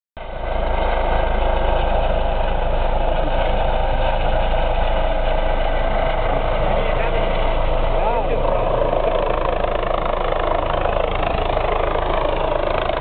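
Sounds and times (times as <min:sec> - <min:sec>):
helicopter flying overhead: 0:00.2 - 0:13.0.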